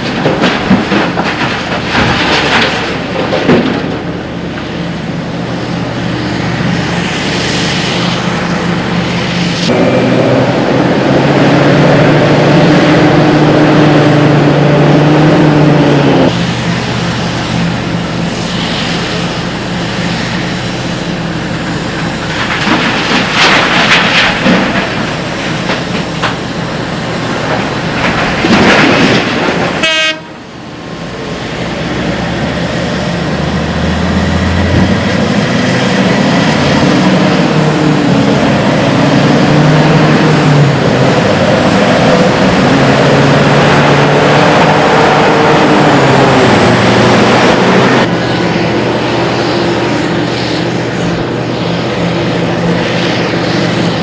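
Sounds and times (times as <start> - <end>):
heavy diesel engines running hard: 0.0 - 54.0.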